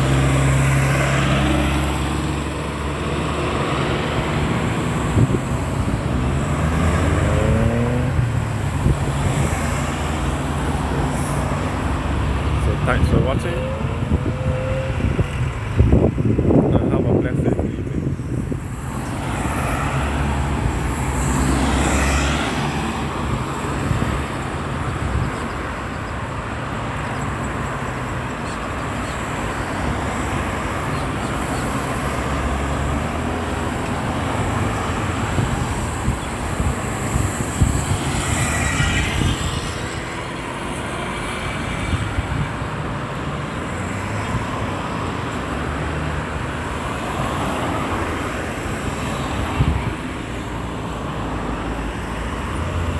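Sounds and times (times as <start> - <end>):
loud vehicle passing: 0.0 - 16.7, 17.6 - 52.9
road traffic passing: 0.0 - 52.9.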